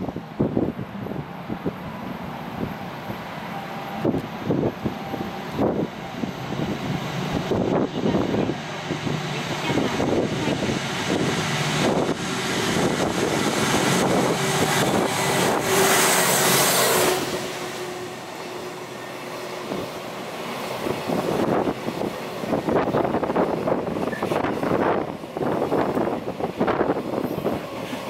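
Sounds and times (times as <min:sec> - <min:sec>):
wind buffeting microphone: 0:00.0 - 0:17.8, 0:19.6 - 0:28.0
freight train passing: 0:00.0 - 0:28.0
locomotive steady tone: 0:00.0 - 0:28.0.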